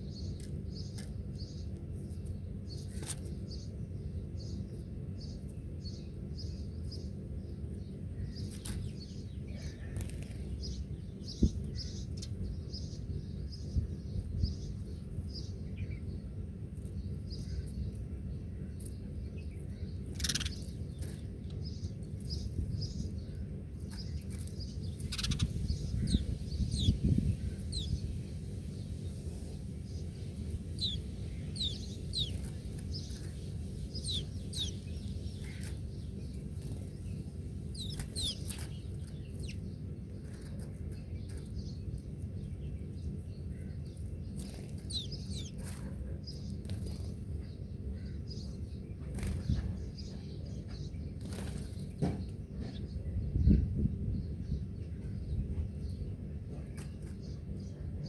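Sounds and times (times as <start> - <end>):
small birds chirping: 0.0 - 58.0
steady low rumble: 0.0 - 58.0.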